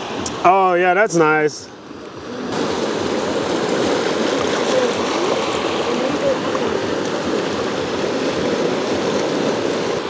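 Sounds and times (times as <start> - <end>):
small waves washing on shore: 0.0 - 10.0.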